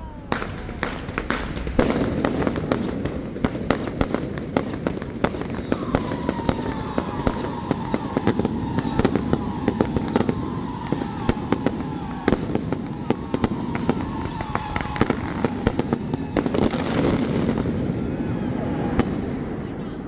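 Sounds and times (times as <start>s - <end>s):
fireworks cracking and popping: 0.3s - 19.6s.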